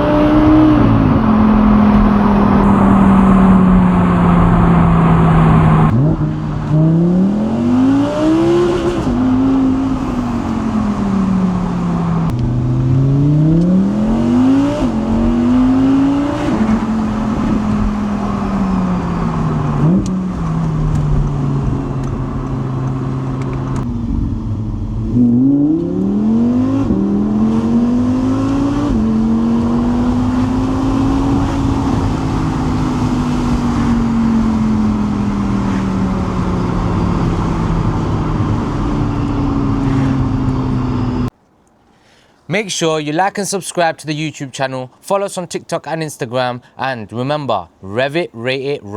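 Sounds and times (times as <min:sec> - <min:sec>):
car engine accelerating hard: 0:00.0 - 0:41.4.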